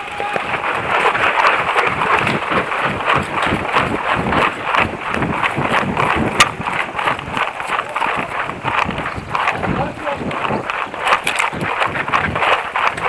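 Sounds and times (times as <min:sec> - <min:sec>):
running footsteps on dirt path: 0:00.0 - 0:13.0
wind on microphone: 0:00.0 - 0:13.0.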